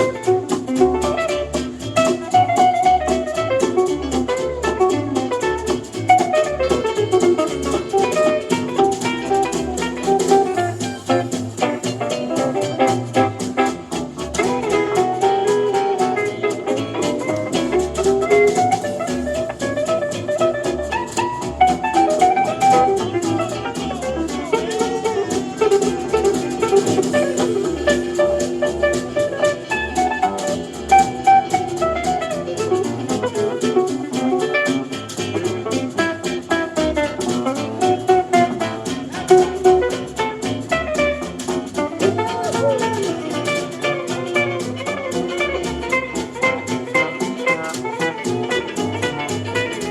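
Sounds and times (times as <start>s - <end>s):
bass: 0.0s - 49.9s
drum kit steady beat: 0.0s - 49.9s
lead guitar with sliding notes: 0.0s - 49.9s.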